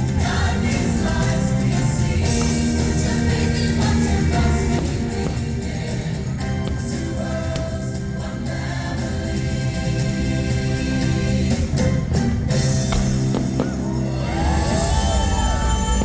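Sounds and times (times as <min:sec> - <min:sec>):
singing over a steady beat: 0:00.0 - 0:16.0.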